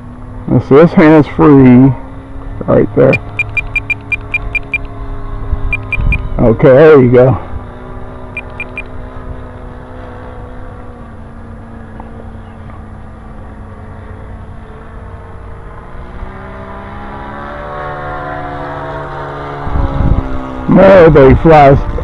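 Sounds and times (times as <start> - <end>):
model airplane engine droning: 0.0 - 22.0.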